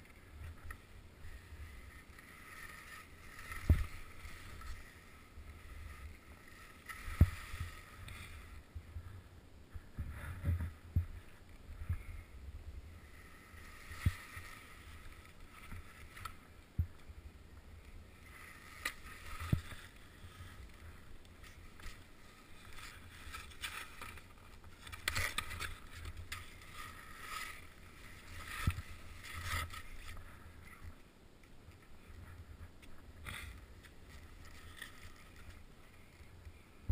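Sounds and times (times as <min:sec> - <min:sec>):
skis scraping through snow: 0:00.1 - 0:12.3, 0:12.9 - 0:17.1, 0:17.8 - 0:31.0.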